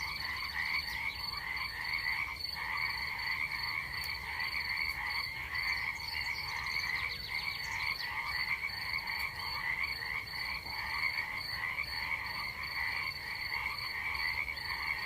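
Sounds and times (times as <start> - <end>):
cricket trill: 0.0 - 15.0
frogs croaking: 0.0 - 15.0.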